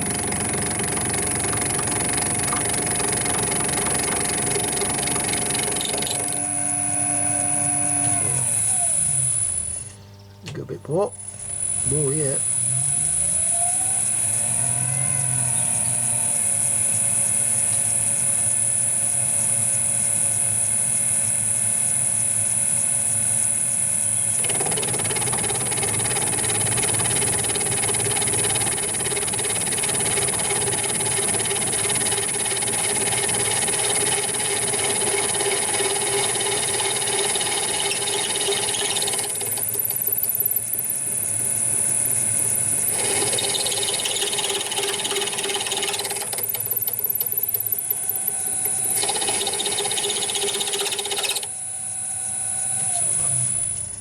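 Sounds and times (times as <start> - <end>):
metal lathe running: 0.0 - 10.0, 10.9 - 54.0.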